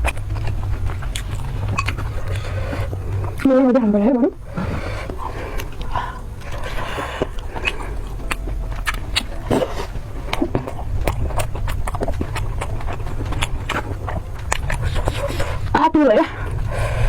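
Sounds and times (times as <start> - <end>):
person crunching food: 0.0 - 3.6, 4.4 - 17.0
low steady hum: 0.0 - 17.0.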